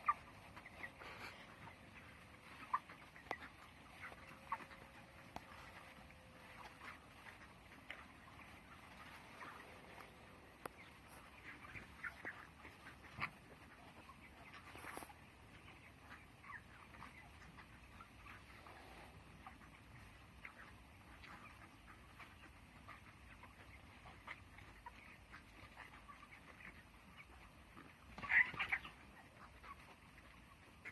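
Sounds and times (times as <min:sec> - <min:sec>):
chickens chirping and clucking: 0:00.0 - 0:30.9.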